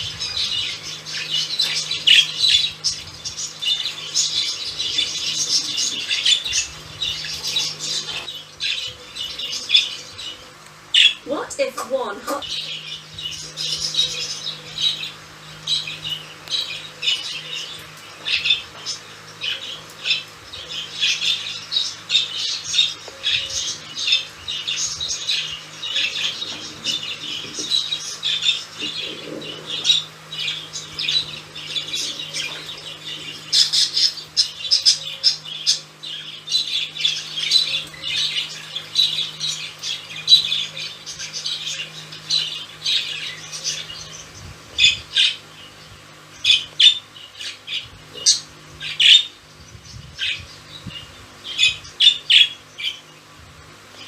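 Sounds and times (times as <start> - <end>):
budgerigars chirping: 0.0 - 53.1
low steady hum: 0.0 - 54.0.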